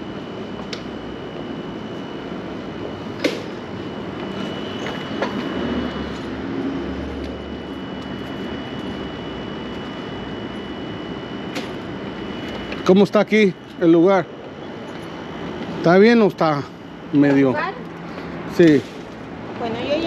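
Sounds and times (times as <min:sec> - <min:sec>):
steady rumbling noise: 0:00.0 - 0:20.0
thin high whine: 0:00.0 - 0:20.0.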